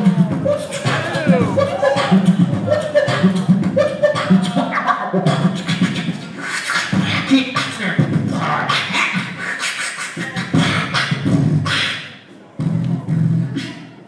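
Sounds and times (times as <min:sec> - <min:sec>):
beatboxing: 0:00.0 - 0:14.0.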